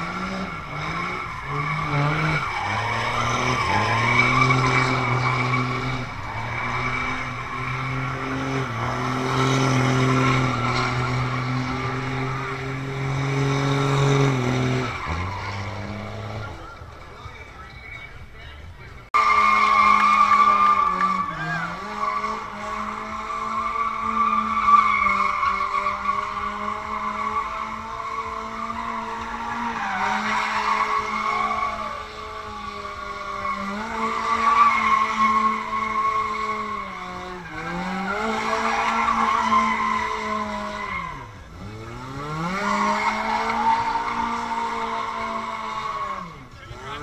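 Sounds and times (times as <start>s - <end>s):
car engine revving high: 0.0s - 16.8s, 19.2s - 47.0s
tyres squealing: 0.0s - 47.0s.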